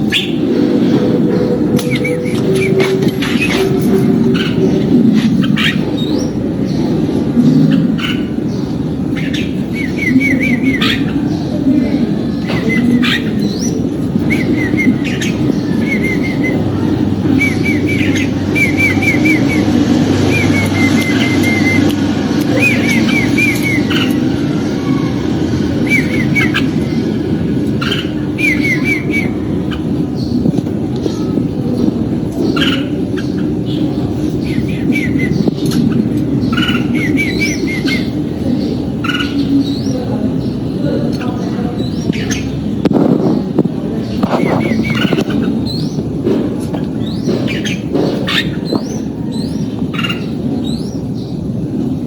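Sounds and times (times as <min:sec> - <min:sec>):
bulbul calling: 0:00.0 - 0:51.4
bird singing chirped notes: 0:00.0 - 0:52.0
steady low hum: 0:00.0 - 0:52.0
steady low rumble: 0:00.0 - 0:52.0.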